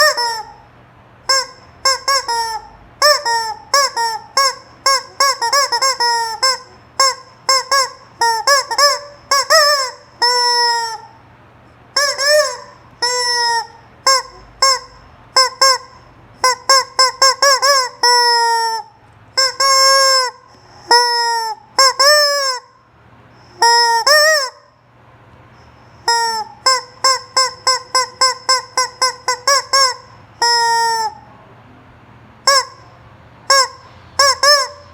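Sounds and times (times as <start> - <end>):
rubber chicken toy squawking: 0.0 - 11.2, 11.9 - 24.8, 25.7 - 31.3, 32.4 - 34.9.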